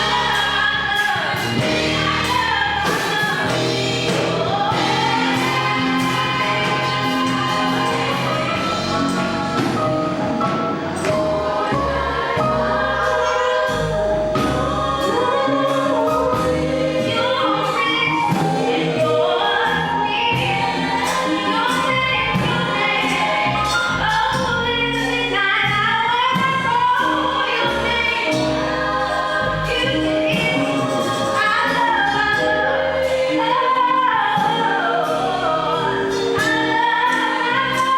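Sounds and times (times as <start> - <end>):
bass and drum beat: 0.0 - 37.9
gospel choir singing: 0.0 - 37.9.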